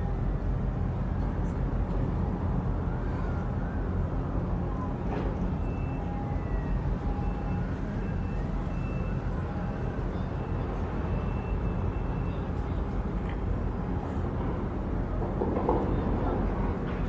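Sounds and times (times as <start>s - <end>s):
distant engines and traffic: 0.0s - 17.0s.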